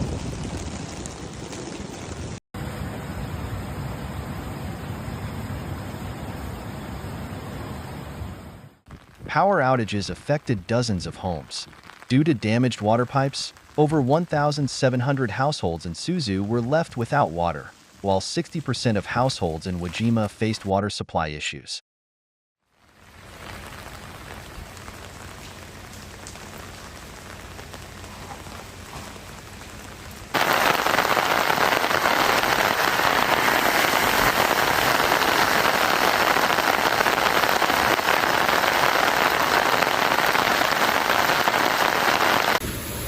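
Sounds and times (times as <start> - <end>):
heavy rain falling: 0.0 - 3.0, 8.9 - 20.1, 22.7 - 43.0.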